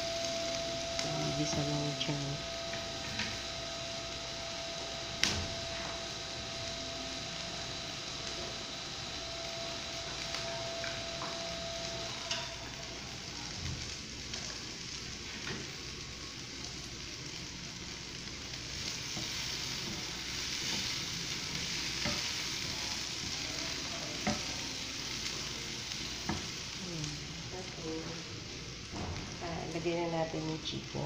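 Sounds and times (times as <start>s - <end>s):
vegetables sizzling in a frying pan: 0.0s - 31.0s.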